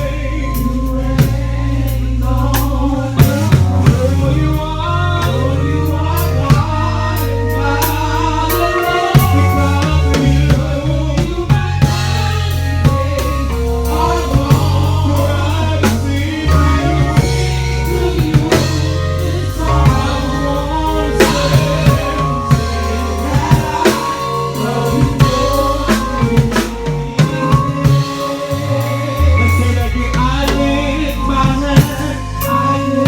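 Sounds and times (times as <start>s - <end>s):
gospel band playing: 0.0s - 33.0s
person singing: 0.0s - 33.0s.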